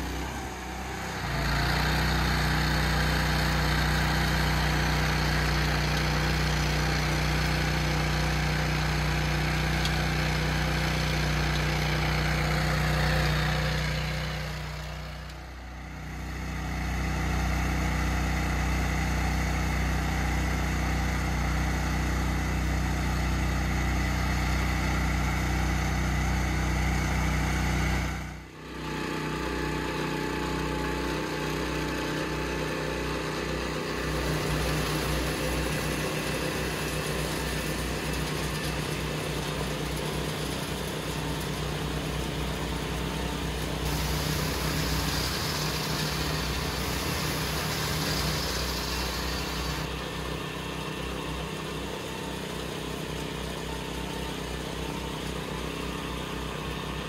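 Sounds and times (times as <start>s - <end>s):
hydraulic power unit running: 0.0s - 57.0s.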